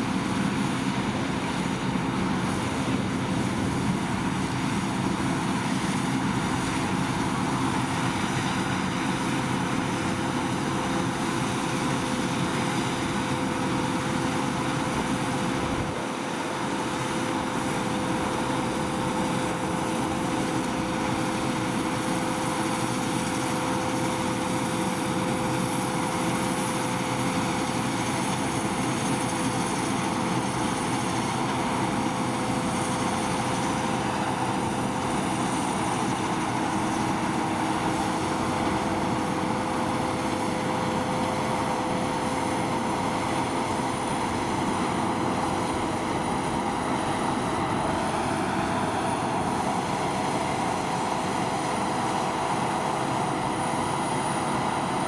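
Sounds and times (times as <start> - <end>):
combine harvester engine drone: 0.0 - 55.0
constant machine whine: 0.0 - 55.0.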